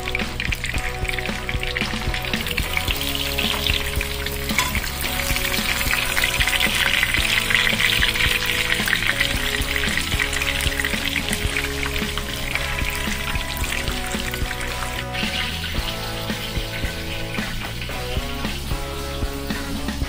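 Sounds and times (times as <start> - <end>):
pork chop frying in hot oil: 0.0 - 20.0.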